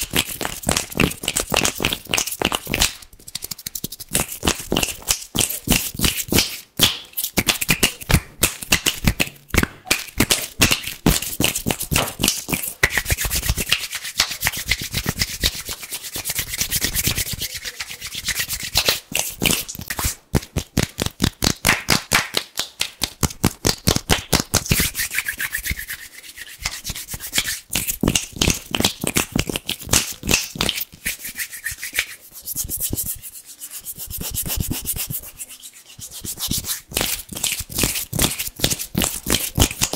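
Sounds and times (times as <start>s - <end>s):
hands rubbing together: 0.0s - 21.3s, 22.5s - 39.9s.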